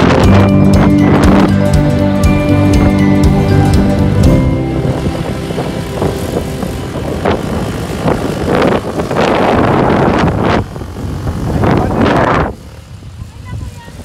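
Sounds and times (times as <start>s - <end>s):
quad bike engine passing: 0.0s - 14.0s.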